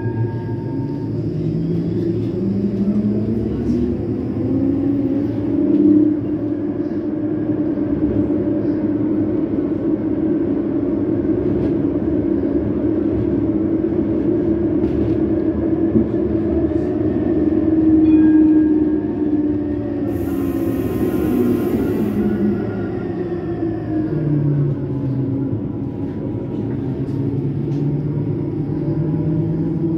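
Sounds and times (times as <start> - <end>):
tram wheels rumbling on rails: 0.0 - 29.9.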